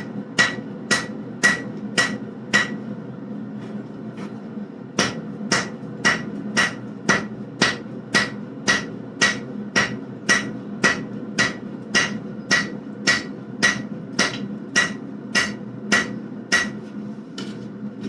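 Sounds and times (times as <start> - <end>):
hammer striking metal on anvil: 0.0 - 2.8, 5.0 - 16.8.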